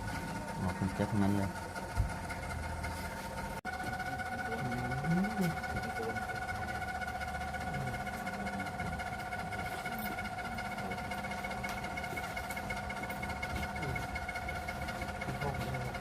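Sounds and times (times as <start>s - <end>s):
small motor running: 0.0s - 16.0s.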